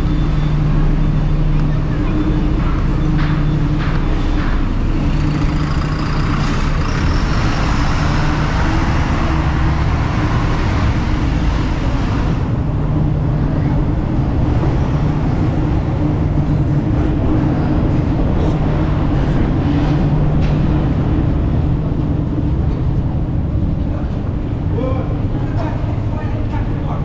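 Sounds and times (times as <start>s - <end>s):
passing traffic: 0.0s - 27.0s
vehicle engine running: 0.0s - 27.0s.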